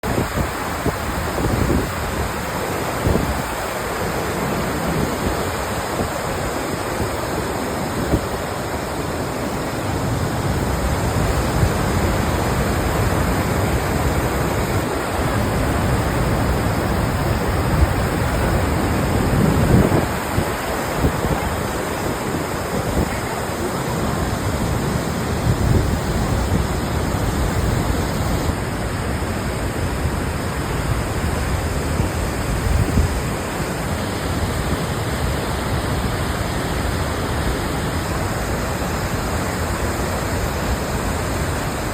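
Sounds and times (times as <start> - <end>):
wind buffeting microphone: 0.0 - 36.9
waterfall roaring: 0.0 - 41.9.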